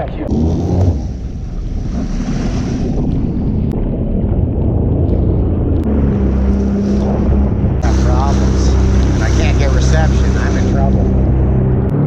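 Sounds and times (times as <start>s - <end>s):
water noise: 0.0s - 12.0s
watercraft engine running: 0.0s - 12.0s
wind noise: 0.0s - 12.0s.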